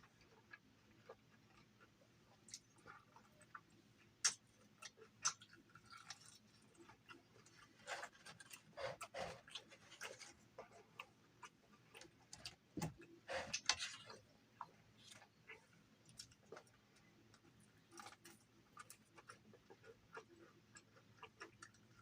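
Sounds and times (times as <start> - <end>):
chewing and lip smacks: 0.0 - 22.0.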